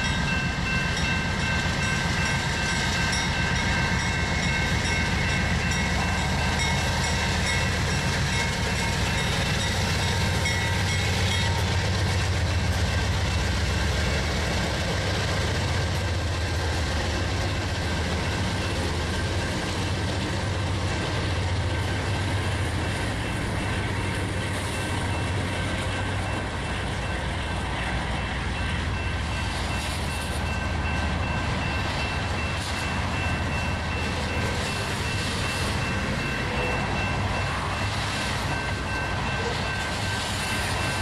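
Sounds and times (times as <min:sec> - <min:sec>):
train cars rumbling on rails: 0:00.0 - 0:41.0.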